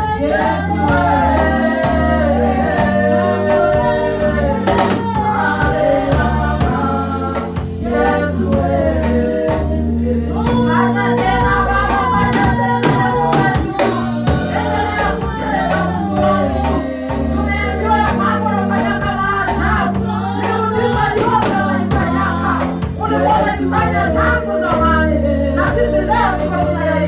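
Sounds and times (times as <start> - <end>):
band playing: 0.0 - 27.0
bass notes: 0.0 - 27.0
steady drum beat: 0.0 - 27.0
voices singing together: 0.0 - 27.0.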